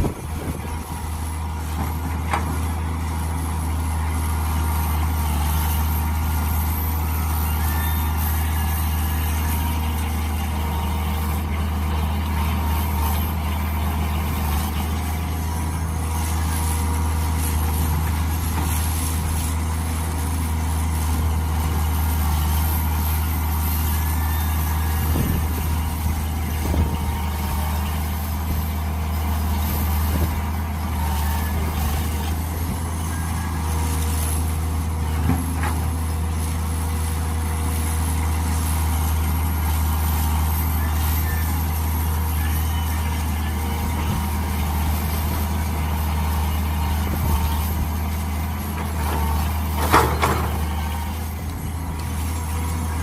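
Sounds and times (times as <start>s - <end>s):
excavator engine droning: 0.0s - 53.0s.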